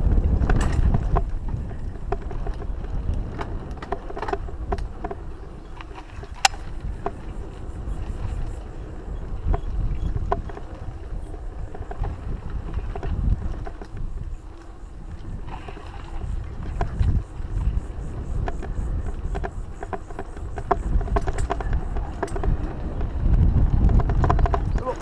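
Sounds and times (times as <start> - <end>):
bike clicks and rattles: 0.0 - 25.0
tyre noise on dirt: 0.0 - 25.0
wind rumble on microphone: 0.0 - 25.0.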